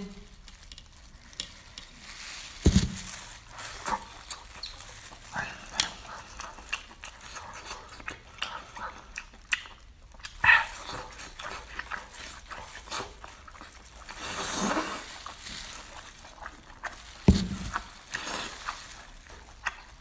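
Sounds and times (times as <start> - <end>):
slurping and chewing: 3.2 - 20.0.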